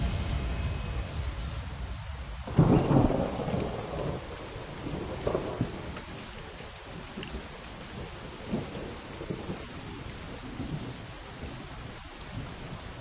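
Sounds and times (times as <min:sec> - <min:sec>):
steady falling rain: 0:00.0 - 0:13.0
thunder rumbling: 0:00.0 - 0:13.0.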